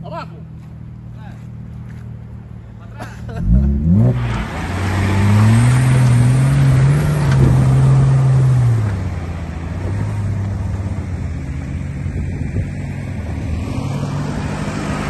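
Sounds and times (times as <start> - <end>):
off-road vehicle engine revving: 2.8 - 15.0.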